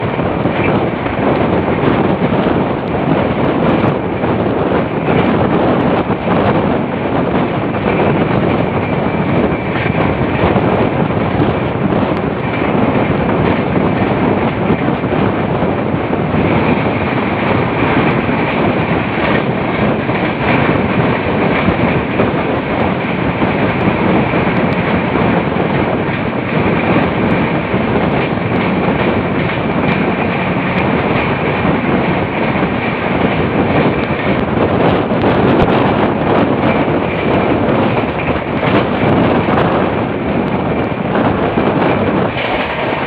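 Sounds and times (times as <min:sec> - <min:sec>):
train wheel and rail noise: 0:00.0 - 0:43.0.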